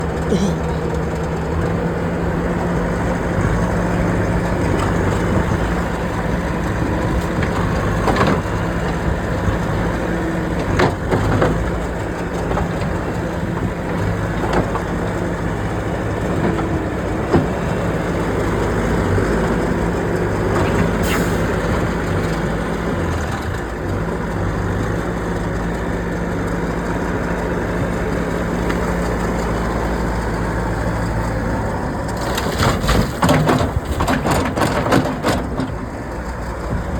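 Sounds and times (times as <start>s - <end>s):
heavy engine running: 0.0s - 36.9s.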